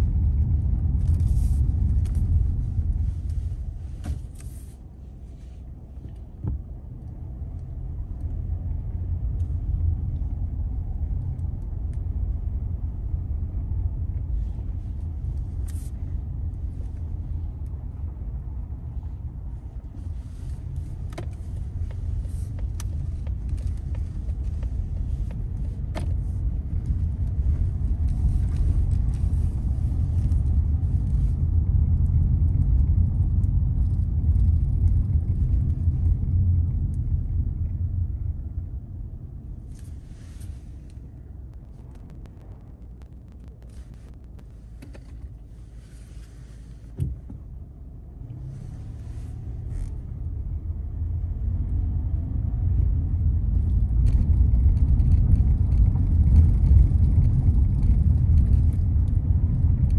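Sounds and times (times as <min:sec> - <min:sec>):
tyres and engine rumbling: 0:00.0 - 0:59.9.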